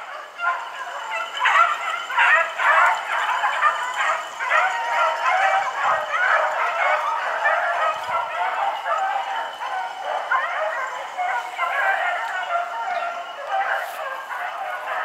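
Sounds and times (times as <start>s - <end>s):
beagles baying and yelping: 0.0s - 15.0s.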